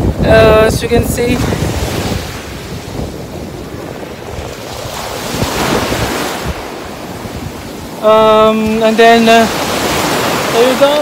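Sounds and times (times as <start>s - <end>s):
wind buffeting microphone: 0.0s - 11.0s
small surf breaking on shore: 1.1s - 11.0s.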